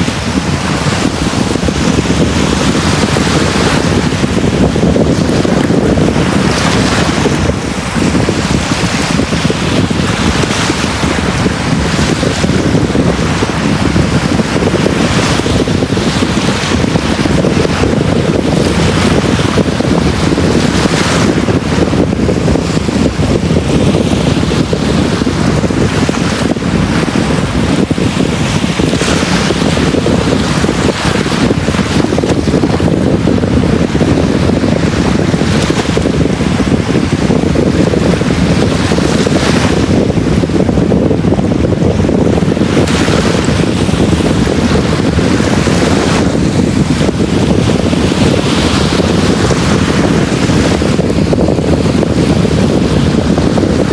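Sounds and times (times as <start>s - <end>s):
sea waves on a beach: 0.0s - 53.9s
wind buffeting microphone: 0.0s - 53.9s.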